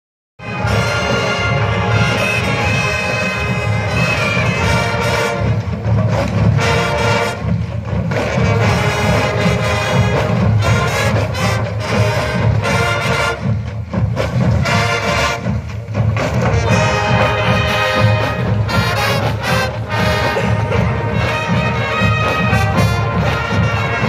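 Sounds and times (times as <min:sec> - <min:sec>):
brass sustained notes: 0:00.4 - 0:13.7, 0:14.6 - 0:15.8, 0:16.4 - 0:24.0
massed band playing: 0:00.4 - 0:24.0.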